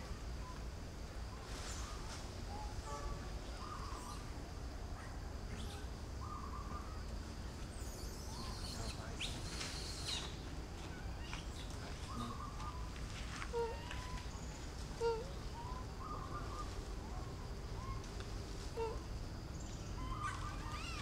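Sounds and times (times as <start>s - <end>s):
birds chirping: 1.7s - 4.3s, 5.5s - 18.0s, 18.8s - 21.0s.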